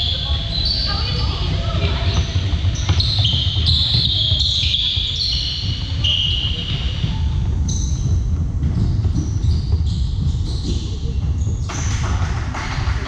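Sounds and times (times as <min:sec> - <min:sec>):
shoes squeaking on hardwood floor: 0:00.0 - 0:12.0
steady low rumble: 0:00.0 - 0:13.0.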